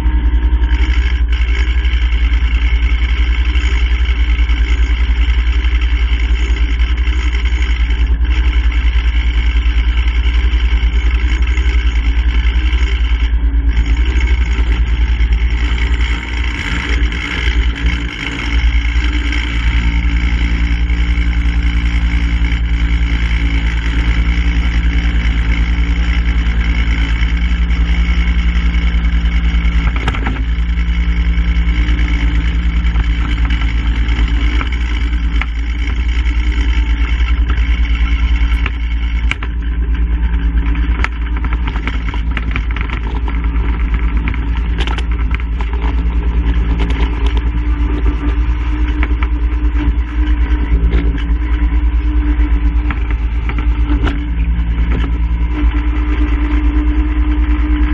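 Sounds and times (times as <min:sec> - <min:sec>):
low pitched hum: 0:00.0 - 0:57.9
vehicle engine rumbling: 0:00.0 - 0:57.9.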